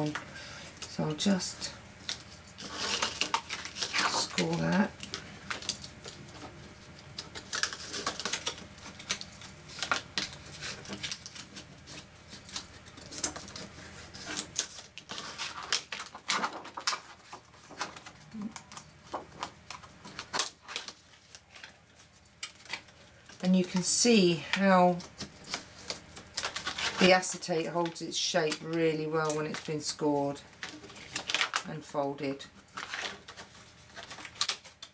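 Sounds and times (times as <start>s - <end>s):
plastic sheet scratching and clicking: 2.0s - 23.0s, 23.6s - 30.0s, 30.6s - 34.9s.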